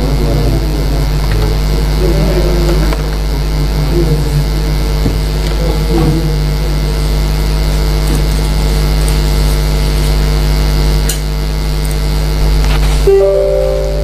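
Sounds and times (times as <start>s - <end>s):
electrical hum and buzz: 0.0s - 14.0s.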